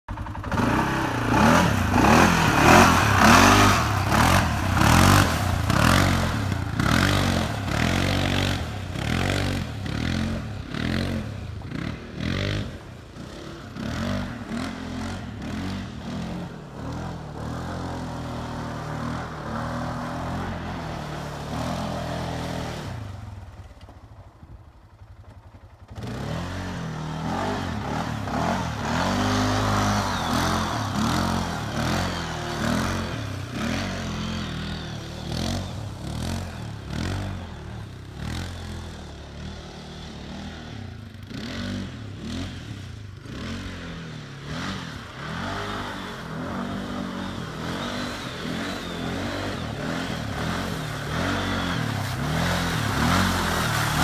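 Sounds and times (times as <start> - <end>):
atv engine revving: 0.0 - 54.0
wheels churning through mud and water: 0.1 - 54.0.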